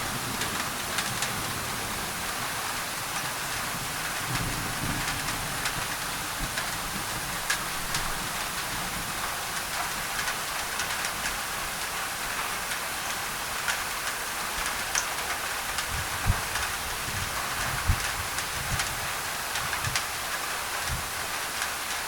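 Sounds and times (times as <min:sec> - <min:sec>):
rain on a tin roof: 0:00.0 - 0:22.0.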